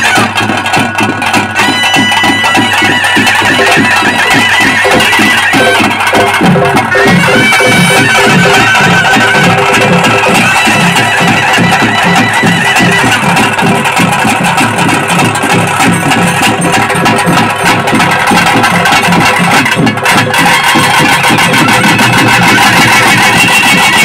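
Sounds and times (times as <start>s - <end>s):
fast steady drumming: 0.0s - 24.0s
reedy wind instrument melody: 0.0s - 24.0s.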